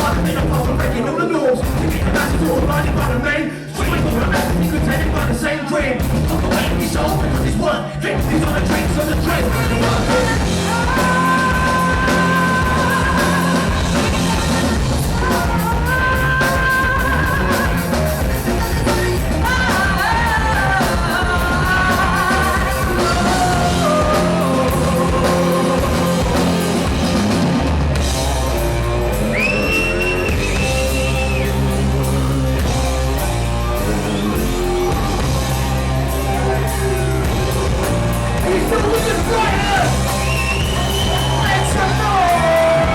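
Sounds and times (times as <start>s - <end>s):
live rock band playing: 0.0s - 42.9s
singer holding long notes: 6.3s - 42.9s.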